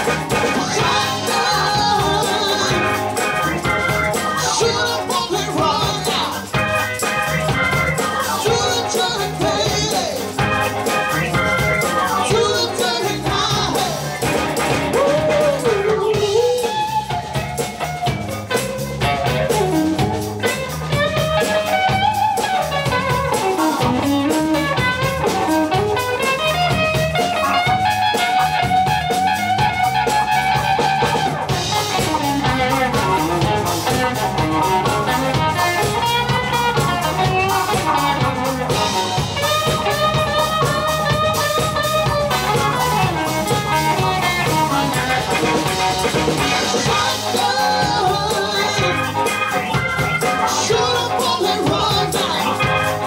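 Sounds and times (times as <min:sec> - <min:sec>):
live blues band: 0:00.0 - 0:53.0.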